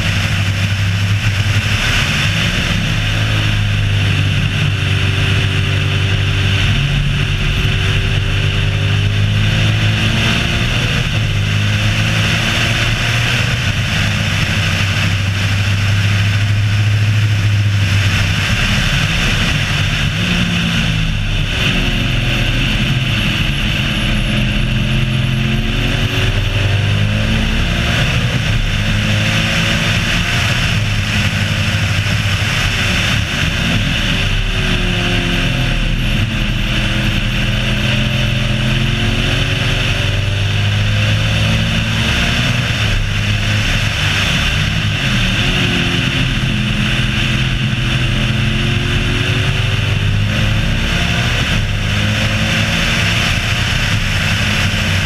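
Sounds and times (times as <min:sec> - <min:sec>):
race car engine revving: 0:00.0 - 0:55.0
steady rushing noise: 0:00.0 - 0:55.0.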